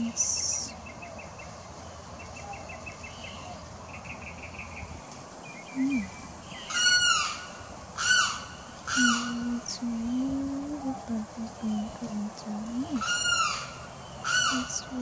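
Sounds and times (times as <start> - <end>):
faint rapid chirping trills: 0.0 - 15.0.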